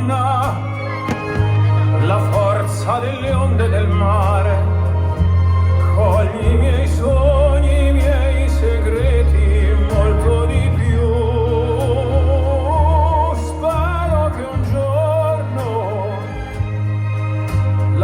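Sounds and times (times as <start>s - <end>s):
heavy bass: 0.0s - 18.0s
operatic singing with vibrato: 0.0s - 18.0s.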